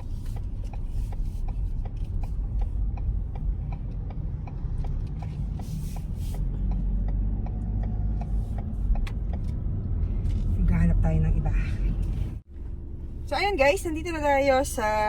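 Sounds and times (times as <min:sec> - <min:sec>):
turn signal ticking: 0:00.0 - 0:12.4
car road and engine rumble: 0:00.0 - 0:15.0.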